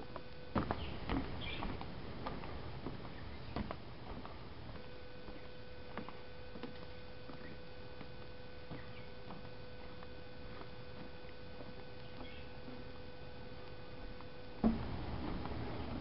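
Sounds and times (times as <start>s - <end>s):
faint steady hum: 0.0s - 16.0s
footsteps on wooden steps: 0.0s - 16.0s.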